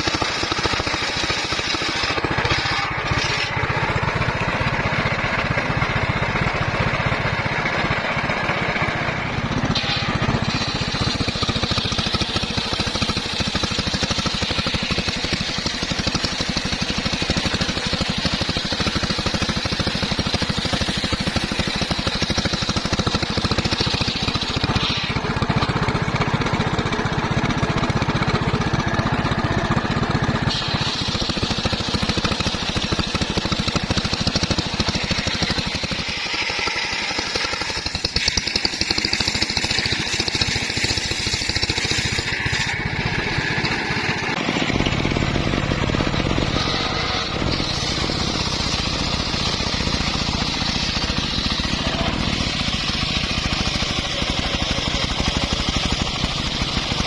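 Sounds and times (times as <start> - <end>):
saw blade cutting wood: 0.0 - 57.0
sawmill engine running: 0.0 - 57.0.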